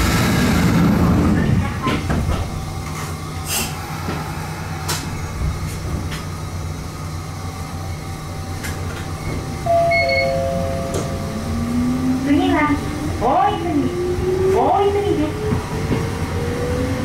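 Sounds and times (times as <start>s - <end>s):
train running gear hum: 0.0s - 17.0s.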